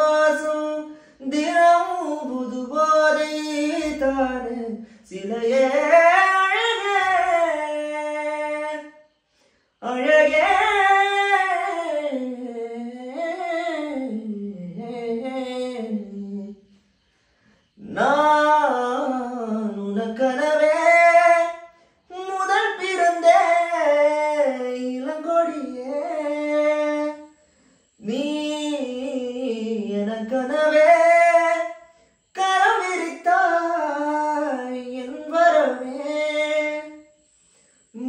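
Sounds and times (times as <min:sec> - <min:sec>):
man singing unaccompanied: 0:00.0 - 0:09.2, 0:09.8 - 0:16.8, 0:17.8 - 0:27.4, 0:28.0 - 0:37.2.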